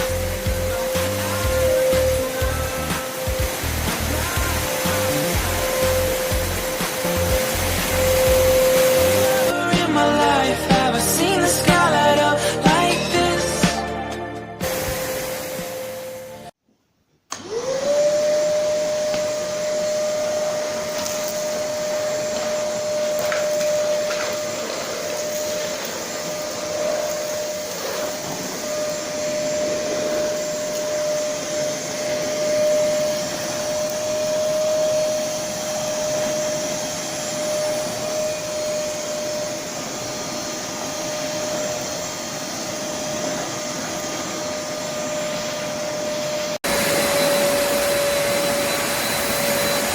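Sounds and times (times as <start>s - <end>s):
hiss of air: 0.0s - 9.6s, 14.6s - 16.3s, 20.7s - 49.9s
vacuum cleaner motor whine: 0.0s - 9.7s, 14.6s - 16.6s, 17.3s - 49.9s.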